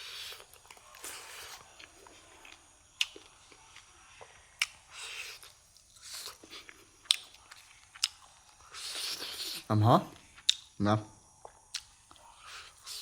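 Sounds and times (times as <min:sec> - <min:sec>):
food crunching: 0:00.0 - 0:10.8, 0:11.4 - 0:13.0
person chewing: 0:00.0 - 0:10.8, 0:11.4 - 0:13.0.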